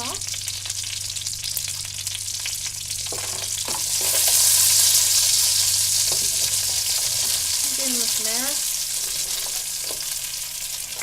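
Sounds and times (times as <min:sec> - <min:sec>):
hot fat sizzling in a pot: 0:00.0 - 0:11.0.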